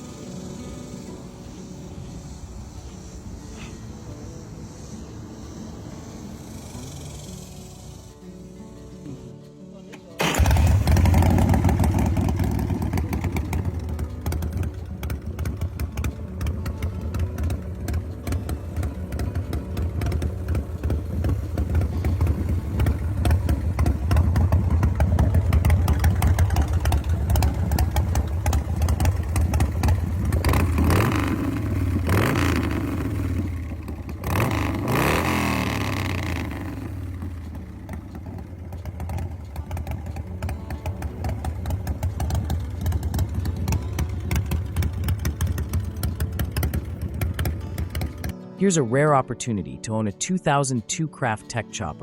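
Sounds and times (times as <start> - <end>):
motorcycle engine idling and revving: 0.0 - 9.3, 10.2 - 48.4.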